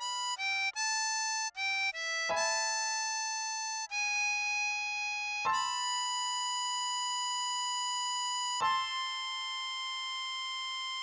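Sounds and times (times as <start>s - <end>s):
harmonica playing slow melody: 0.0s - 11.0s.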